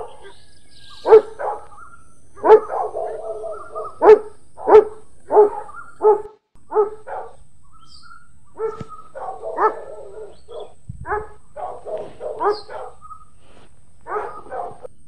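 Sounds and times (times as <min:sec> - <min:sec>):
dog barking: 0:00.0 - 0:07.4, 0:08.0 - 0:14.9.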